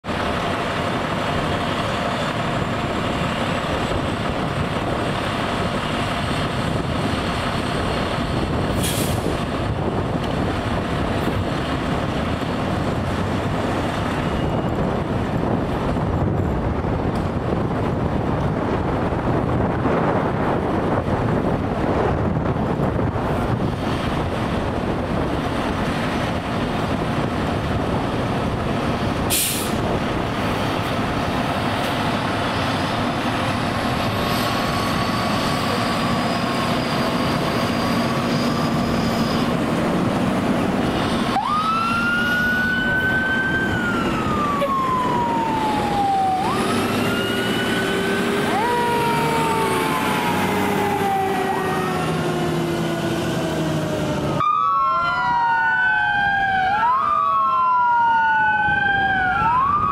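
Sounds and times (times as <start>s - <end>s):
diesel engine running: 0.0s - 54.4s
sirens wailing: 0.0s - 59.9s.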